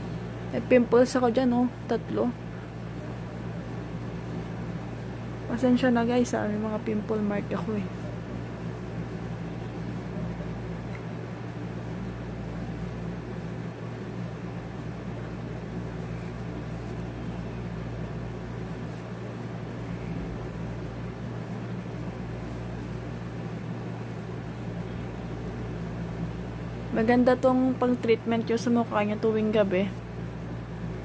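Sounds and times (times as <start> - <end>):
air conditioner humming: 0.0 - 31.0.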